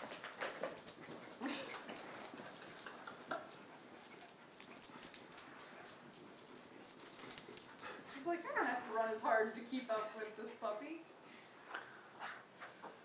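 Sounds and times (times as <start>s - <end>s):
dogs breathing hard: 0.0s - 10.4s.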